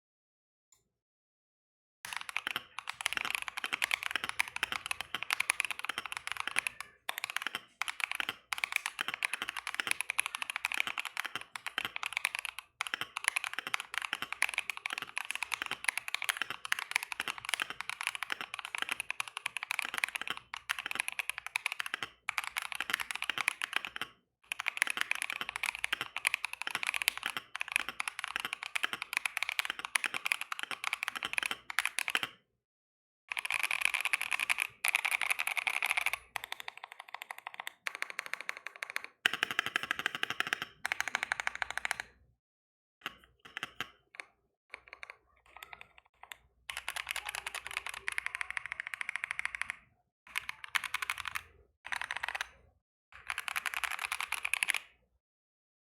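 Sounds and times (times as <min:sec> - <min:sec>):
mechanical keyboard typing: 0:02.1 - 0:32.4, 0:33.3 - 0:42.2, 0:43.0 - 0:52.6, 0:53.2 - 0:55.0.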